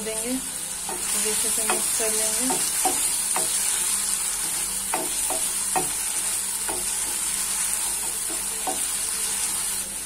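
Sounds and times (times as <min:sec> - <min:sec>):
masala sizzling in oil: 0:00.0 - 0:10.0.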